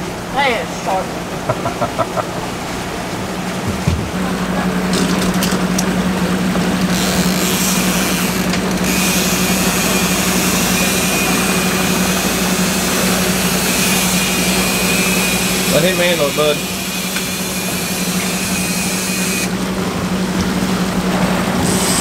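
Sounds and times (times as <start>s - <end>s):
outboard motor droning: 0.0s - 22.0s
water rushing: 0.0s - 22.0s.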